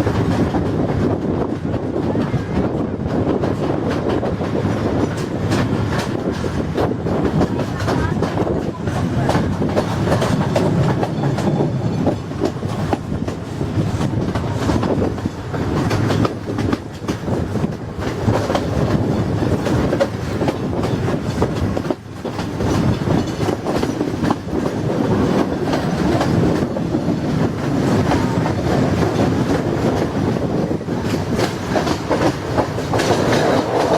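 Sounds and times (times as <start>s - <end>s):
train wheels clattering on rails: 0.0s - 33.9s.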